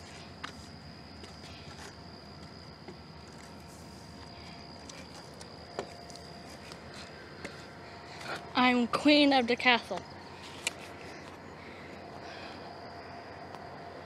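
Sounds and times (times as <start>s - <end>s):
crickets trilling: 0.0s - 14.0s
outdoor background hiss: 0.0s - 14.0s.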